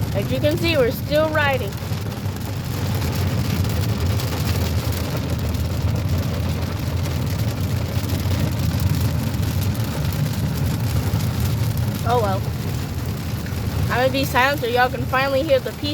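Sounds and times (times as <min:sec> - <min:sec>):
car road and engine rumble: 0:00.0 - 0:15.9
rain on car roof: 0:00.0 - 0:15.9.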